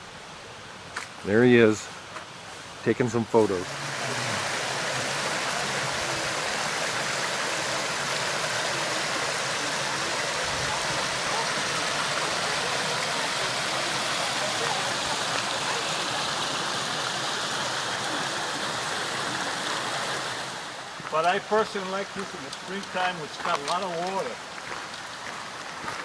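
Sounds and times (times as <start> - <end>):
creek water running over rocks: 0.0 - 26.0.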